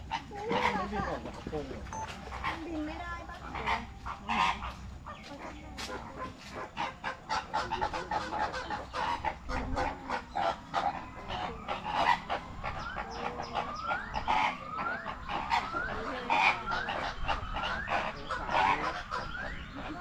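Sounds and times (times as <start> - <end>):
birds clucking and honking: 0.0 - 20.0.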